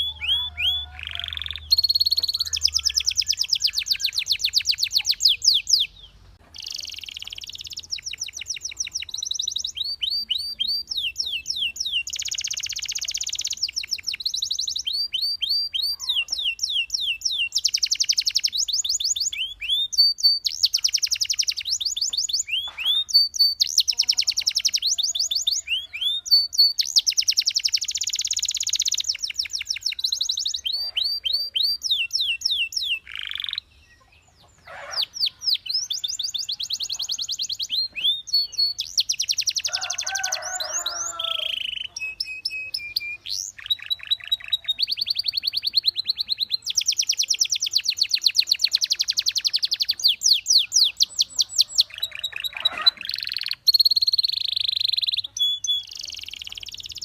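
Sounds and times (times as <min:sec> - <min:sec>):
canary singing rapid trills: 0:00.0 - 0:57.0.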